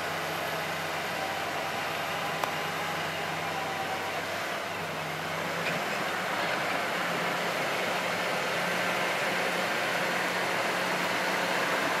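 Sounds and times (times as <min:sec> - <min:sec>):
bulldozer diesel engine: 0:00.0 - 0:12.0.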